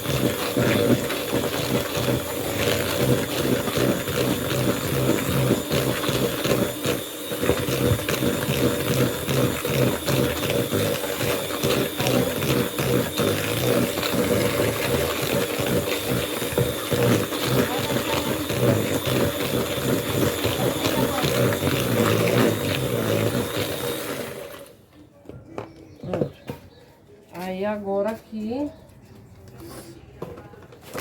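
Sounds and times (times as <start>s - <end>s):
electric mixer running: 0.0s - 24.8s.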